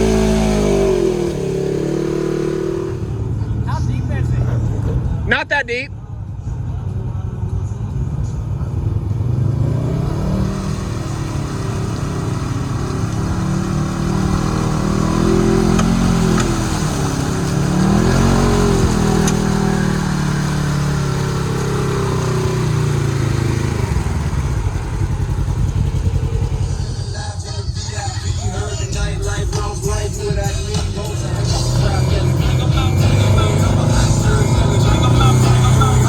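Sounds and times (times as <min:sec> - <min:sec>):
utility vehicle engine revving: 0:00.0 - 0:05.3, 0:07.9 - 0:36.0.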